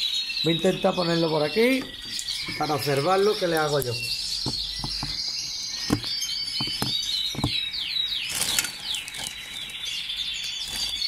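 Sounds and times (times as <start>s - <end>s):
canaries chirping and trilling: 0.0s - 11.0s.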